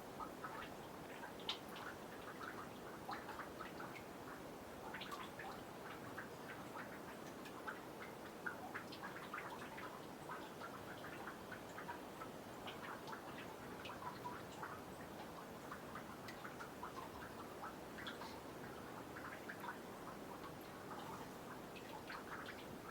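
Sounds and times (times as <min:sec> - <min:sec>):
faint hiss: 0:00.0 - 0:22.9
water dripping into pond: 0:00.0 - 0:22.9.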